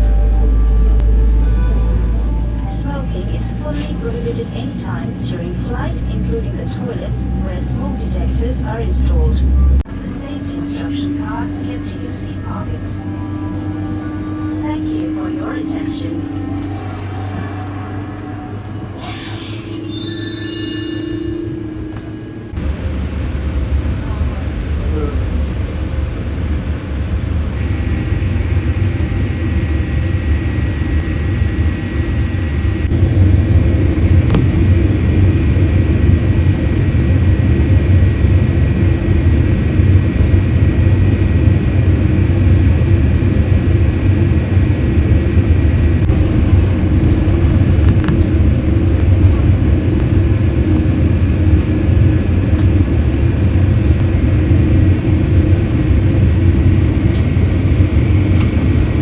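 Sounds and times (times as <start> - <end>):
airliner cabin rumble: 0.0 - 19.8, 21.2 - 59.0.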